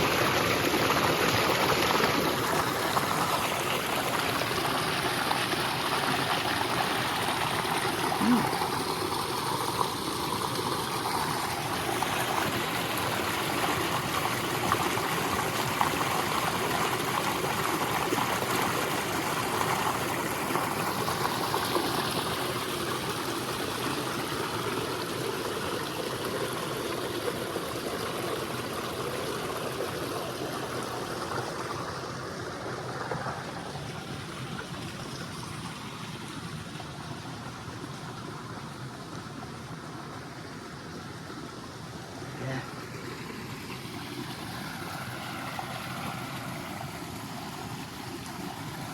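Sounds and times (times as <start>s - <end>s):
waterfall splashing into pond: 0.0s - 48.9s.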